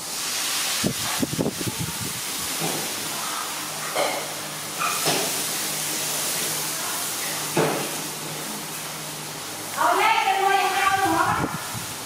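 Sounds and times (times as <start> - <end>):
room noise hiss: 0.0 - 12.0.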